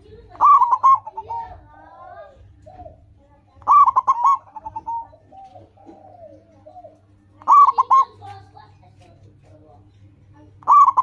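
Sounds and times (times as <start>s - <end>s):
dove cooing: 0.0s - 8.8s, 10.5s - 11.0s.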